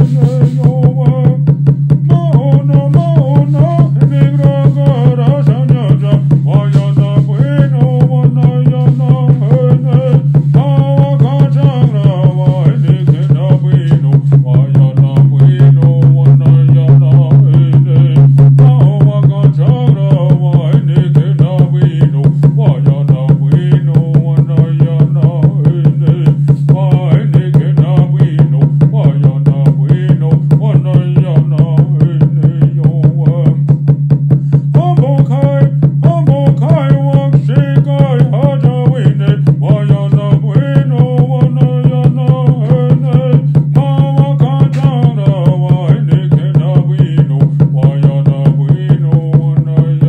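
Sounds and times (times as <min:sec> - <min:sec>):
man singing vocables: 0:00.0 - 0:50.0
water drum beating: 0:00.0 - 0:50.0.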